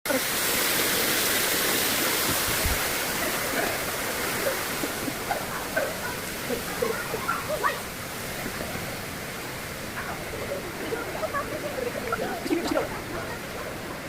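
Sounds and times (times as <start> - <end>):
falling water rushing: 0.1 - 14.0.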